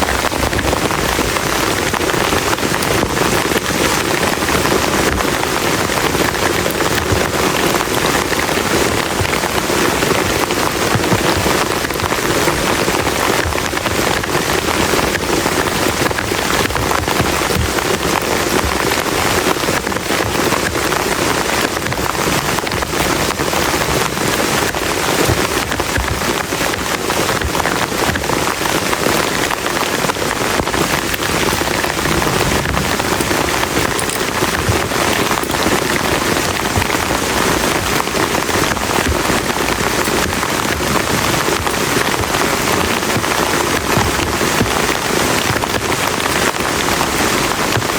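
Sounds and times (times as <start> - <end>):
heavy rain on plastic tarp: 0.0 - 47.9.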